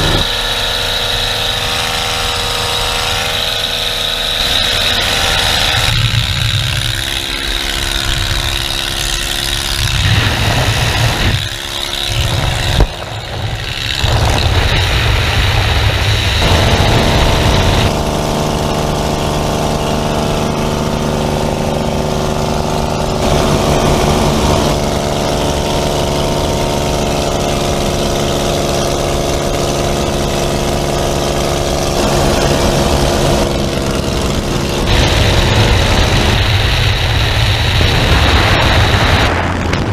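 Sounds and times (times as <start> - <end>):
propeller engine droning: 0.0 - 39.9
wind noise: 4.6 - 19.3, 22.2 - 39.9.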